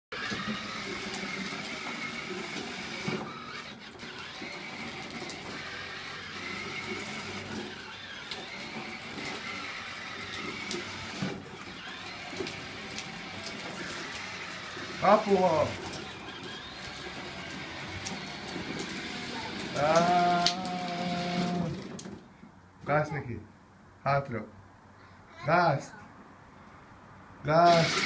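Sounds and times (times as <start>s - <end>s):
toy car motor whirring: 0.1s - 22.2s, 27.6s - 28.0s.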